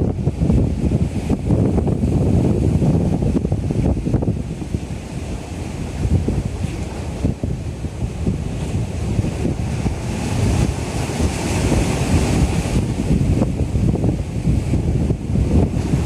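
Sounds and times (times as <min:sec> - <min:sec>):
rough sea: 0:00.0 - 0:16.0
wind buffeting microphone: 0:00.0 - 0:16.0.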